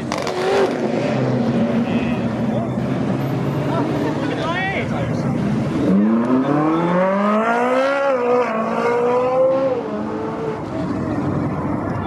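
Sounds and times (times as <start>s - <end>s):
car engine accelerating hard: 0.0s - 4.4s, 5.0s - 12.0s.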